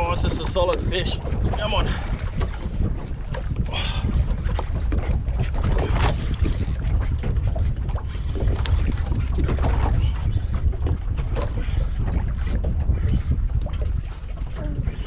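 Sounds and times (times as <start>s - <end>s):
water slapping boat hull: 0.0s - 15.0s
wind buffeting microphone: 0.0s - 15.0s.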